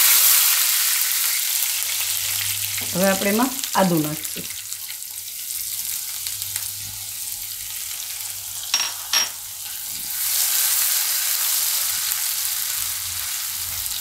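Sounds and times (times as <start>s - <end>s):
spices sizzling in hot oil: 0.0s - 14.0s.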